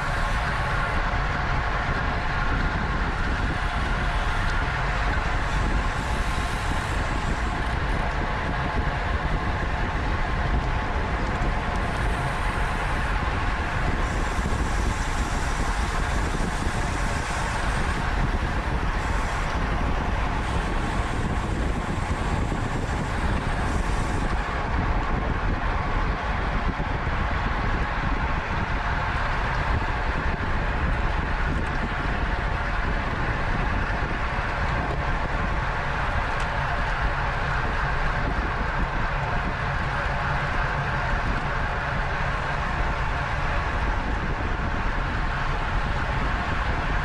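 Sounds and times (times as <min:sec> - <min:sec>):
wind rushing on microphone: 0:00.0 - 0:47.0.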